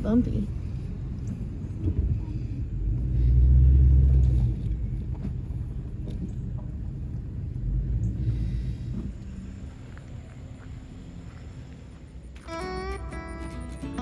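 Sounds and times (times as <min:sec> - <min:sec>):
vehicle rumbling over bumpy road: 0:00.0 - 0:14.0.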